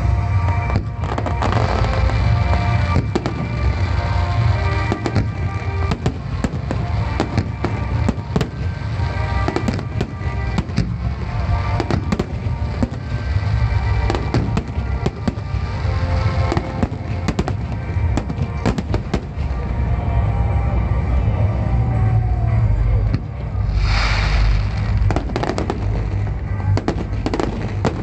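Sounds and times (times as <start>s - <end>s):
fireworks bangs: 0.0s - 19.8s, 21.6s - 28.0s
low rumble: 0.0s - 28.0s
music playing: 0.0s - 28.0s.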